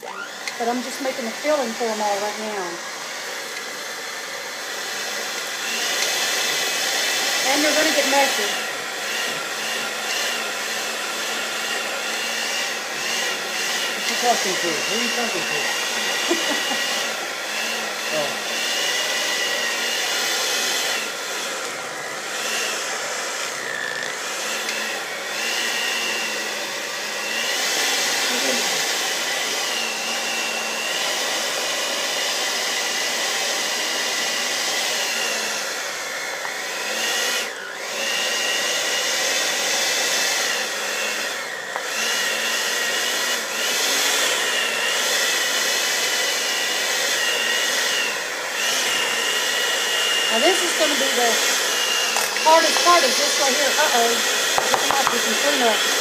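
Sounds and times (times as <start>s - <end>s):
electric mixer whine: 0.0s - 56.0s.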